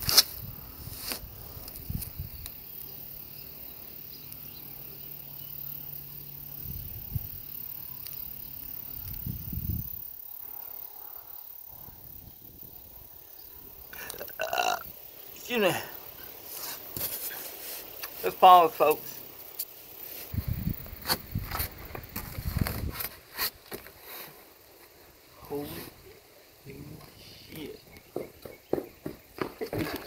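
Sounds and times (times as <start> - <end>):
insect drone: 0.0 - 30.0.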